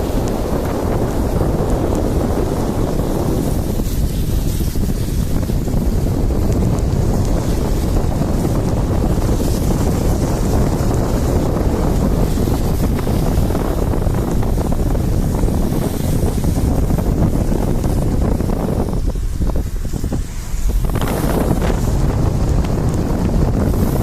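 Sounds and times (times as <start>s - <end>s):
moving vehicle rumble: 0.0s - 24.0s
wind buffeting microphone: 0.0s - 24.0s.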